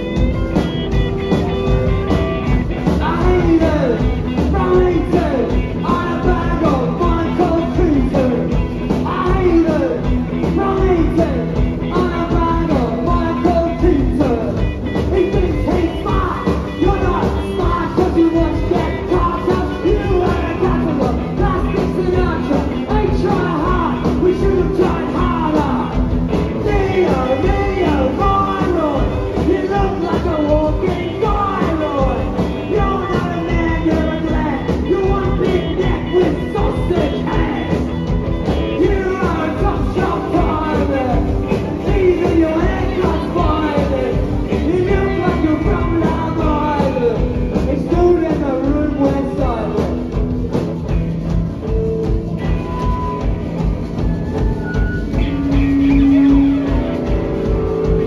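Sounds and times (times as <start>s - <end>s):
man singing: 0.0s - 50.2s, 55.0s - 58.0s
bass guitar: 0.0s - 58.0s
drums: 0.0s - 58.0s
electric guitars: 0.0s - 58.0s.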